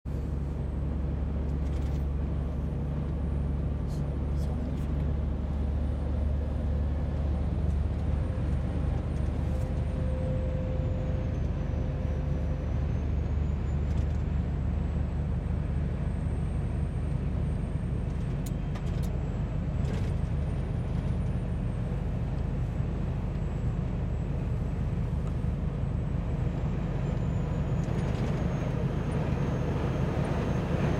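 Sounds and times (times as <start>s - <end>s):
diesel engine running: 0.1s - 30.9s.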